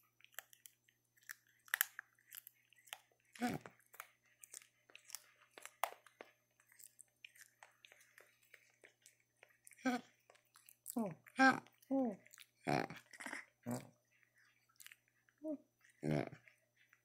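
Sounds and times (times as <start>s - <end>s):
monkeys chewing wet clicks: 0.0s - 17.0s.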